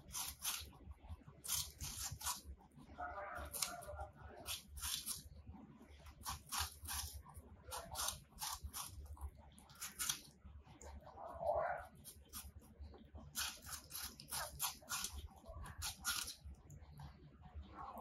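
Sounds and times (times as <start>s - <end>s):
rabbits crunching apple: 0.0s - 18.0s.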